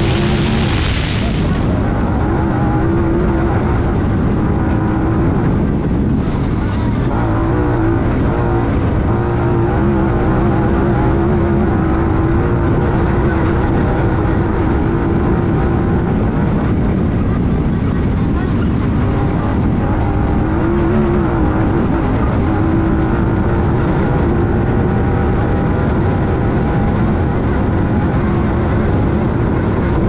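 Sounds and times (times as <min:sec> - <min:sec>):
engine running at high revs: 0:00.0 - 0:30.0
loud wind noise: 0:00.0 - 0:30.0
terrain noise: 0:00.0 - 0:30.0.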